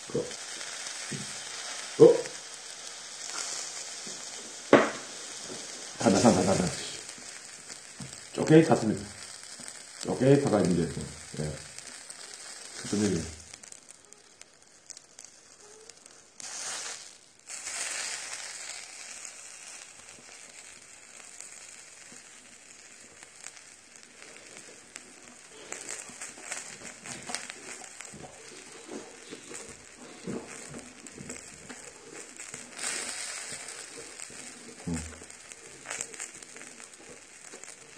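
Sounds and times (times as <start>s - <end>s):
meat sizzling on griddle: 0.0s - 37.9s
small crackles and clicks: 0.0s - 37.9s.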